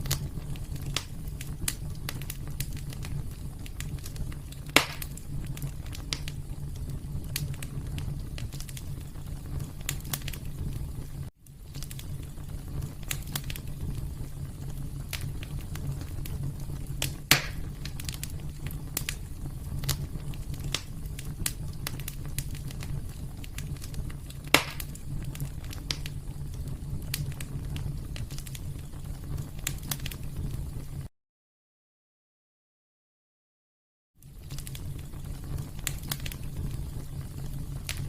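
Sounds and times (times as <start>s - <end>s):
fire crackling: 0.0s - 31.1s, 34.2s - 38.0s
loud fire pops: 0.0s - 31.1s, 34.2s - 38.0s
low rumble of burning fire: 0.0s - 31.1s, 34.2s - 38.0s.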